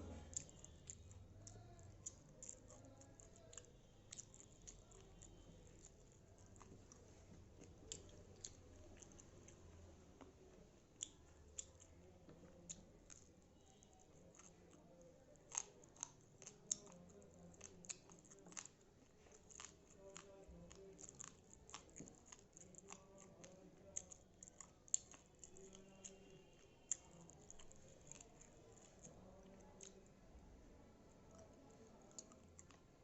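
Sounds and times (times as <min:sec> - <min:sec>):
person chewing with mouth clicks: 0:00.0 - 0:10.4, 0:11.0 - 0:30.1, 0:31.3 - 0:32.9.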